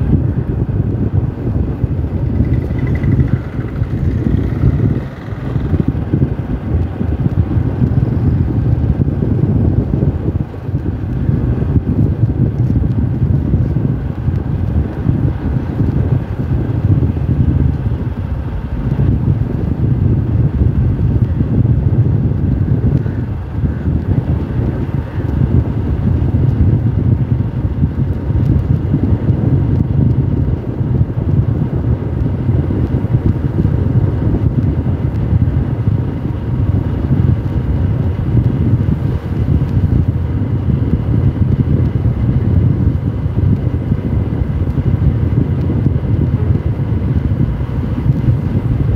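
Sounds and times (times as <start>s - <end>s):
motorcycle engine running: 0.0s - 48.9s
wind buffeting microphone: 0.0s - 48.9s.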